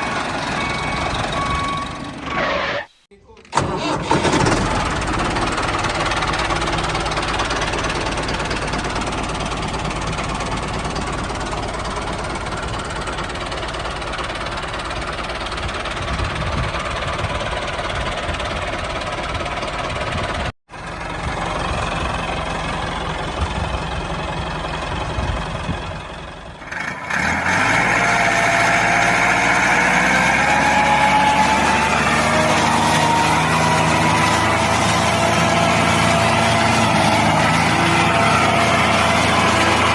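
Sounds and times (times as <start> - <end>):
small tractor engine running: 3.5 - 39.9.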